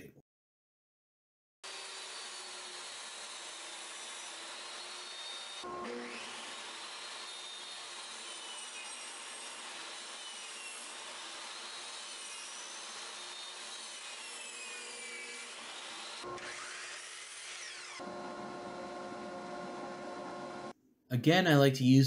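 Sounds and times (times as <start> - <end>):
table saw ripping wood: 1.6 - 20.7.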